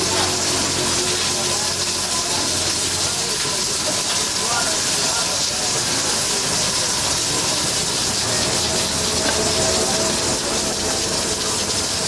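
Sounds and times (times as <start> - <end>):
steam hissing from pressure cookers: 0.0 - 12.0.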